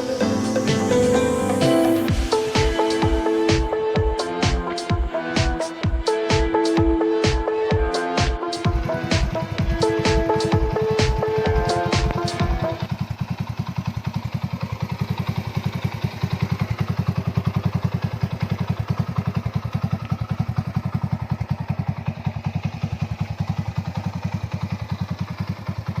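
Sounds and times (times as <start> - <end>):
motorcycle engine idling: 2.0 - 26.0.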